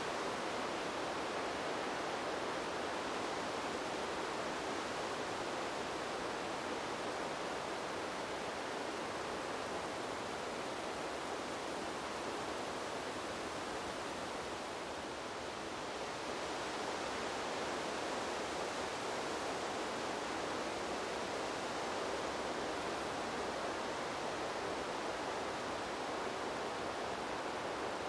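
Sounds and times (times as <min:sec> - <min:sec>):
wind rustling leaves and branches: 0:00.0 - 0:28.0.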